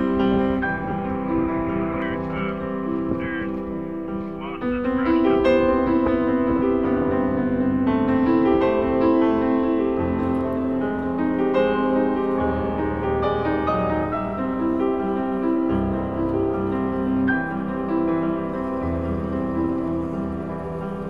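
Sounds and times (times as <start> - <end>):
piano with sustained notes: 0.0 - 21.0.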